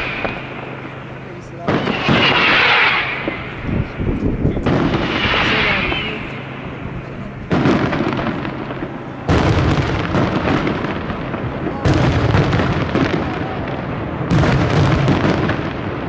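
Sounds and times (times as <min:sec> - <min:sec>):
crackling hissing fireworks tail: 0:00.0 - 0:16.0
fireworks bangs: 0:00.0 - 0:16.0.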